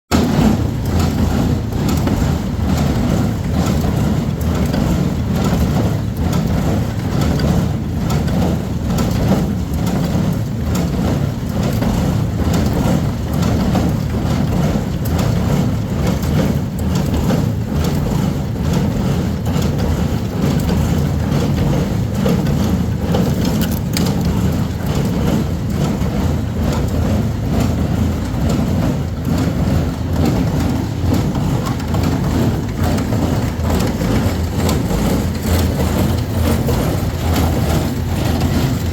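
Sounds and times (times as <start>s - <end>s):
baler mechanism knocking: 0.1s - 38.9s
baler running: 0.1s - 38.9s
tractor engine running: 0.1s - 38.9s.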